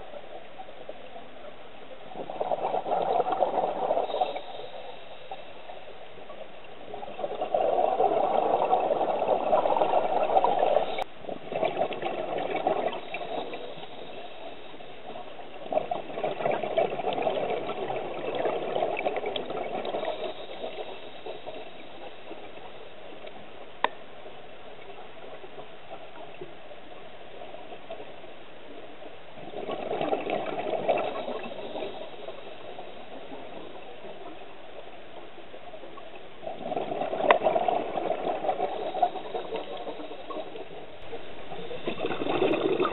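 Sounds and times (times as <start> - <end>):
steady low hiss: 0.0 - 42.9
underwater exhaust bubbles: 1.8 - 24.0, 29.3 - 42.9.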